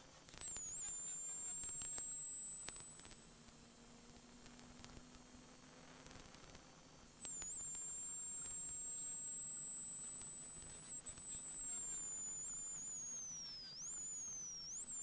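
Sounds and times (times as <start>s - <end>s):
high-pitched electronic whine: 0.0s - 15.0s.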